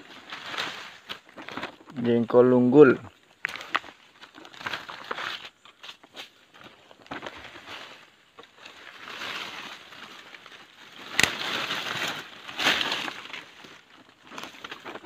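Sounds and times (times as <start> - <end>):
leaves and twigs rustling: 0.0 - 15.0.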